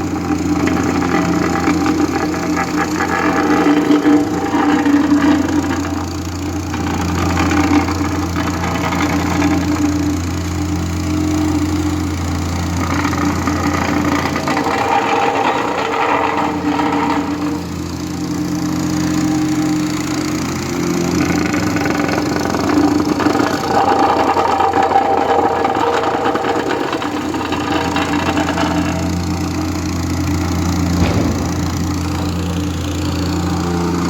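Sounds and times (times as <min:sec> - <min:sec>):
heavy machinery engine running: 0:00.0 - 0:34.0.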